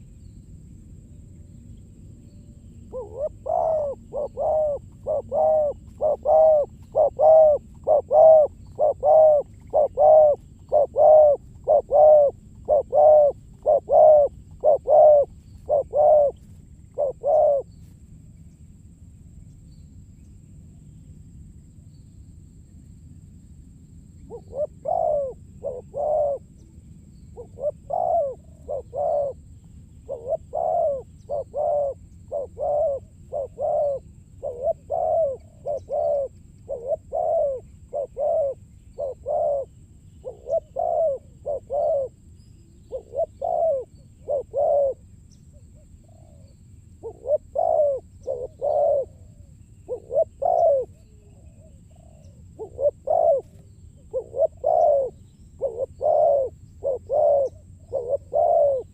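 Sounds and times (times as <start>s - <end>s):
dove cooing: 2.9s - 17.8s, 24.2s - 26.7s, 27.4s - 42.2s, 42.8s - 58.9s.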